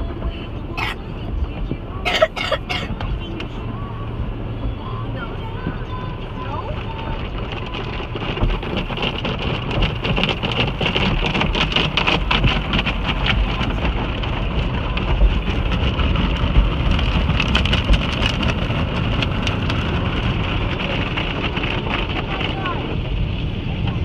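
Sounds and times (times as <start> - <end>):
low rumble: 0.0 - 24.0
water drumming on car roof: 0.0 - 24.0.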